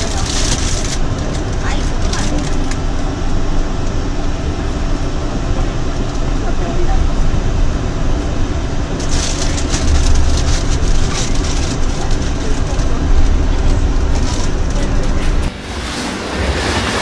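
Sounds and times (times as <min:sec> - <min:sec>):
train tyres rumbling: 0:00.0 - 0:17.0.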